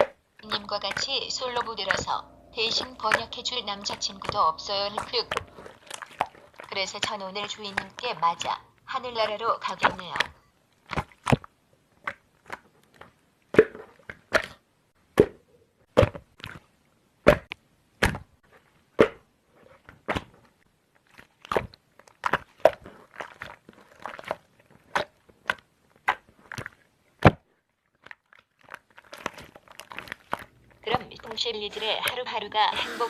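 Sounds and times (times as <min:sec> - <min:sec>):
slime squishing: 0:00.0 - 0:15.3, 0:15.9 - 0:32.4.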